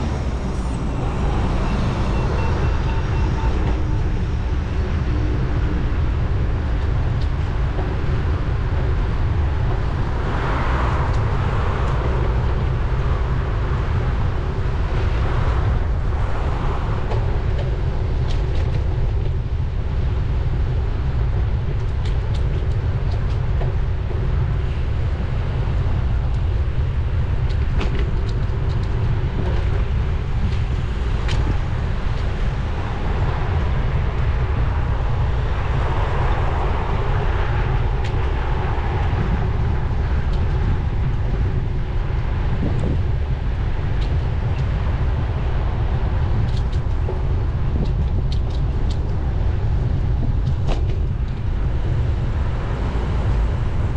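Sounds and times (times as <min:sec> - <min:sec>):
city traffic: 0:00.0 - 0:53.9
tyre and road noise: 0:00.0 - 0:53.9
wind rumble on microphone: 0:00.0 - 0:53.9.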